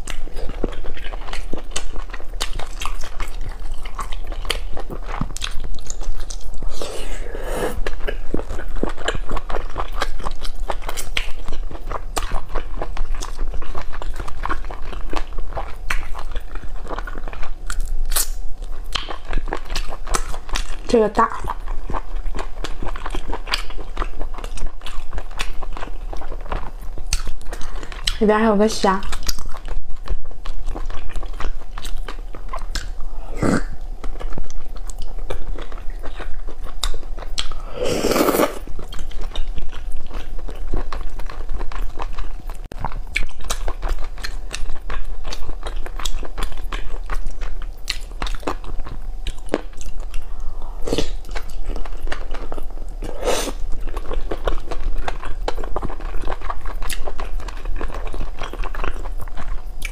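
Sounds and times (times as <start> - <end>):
wet chewing and biting: 0.0 - 6.9, 7.8 - 28.2, 29.1 - 33.1, 34.0 - 59.9.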